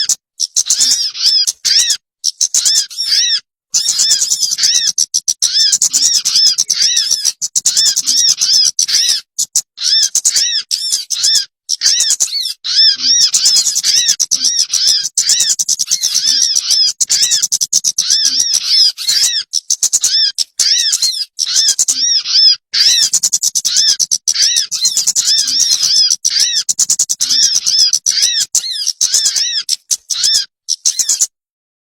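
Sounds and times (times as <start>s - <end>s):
small birds chattering: 0.0s - 31.4s.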